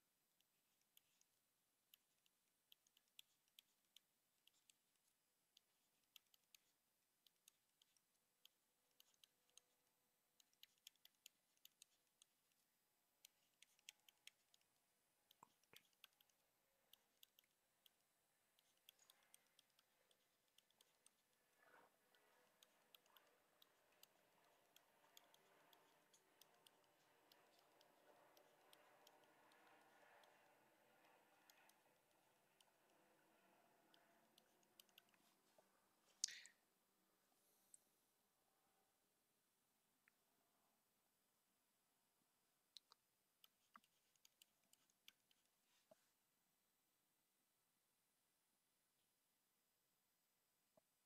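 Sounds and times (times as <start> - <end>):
faint steady background noise: 0.0 - 51.0.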